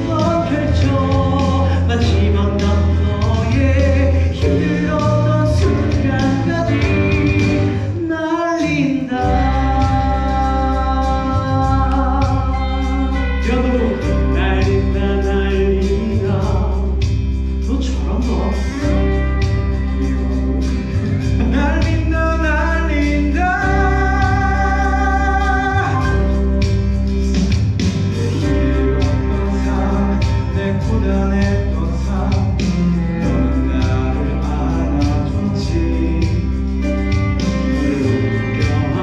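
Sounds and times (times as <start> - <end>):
backing track with beat and bass: 0.0 - 39.0.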